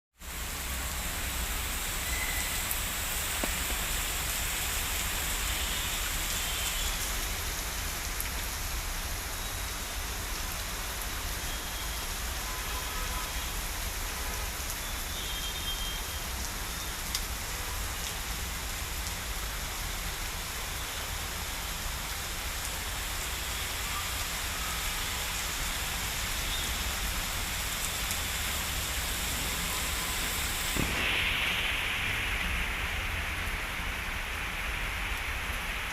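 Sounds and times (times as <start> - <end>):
rain falling on plants: 0.2 - 35.9.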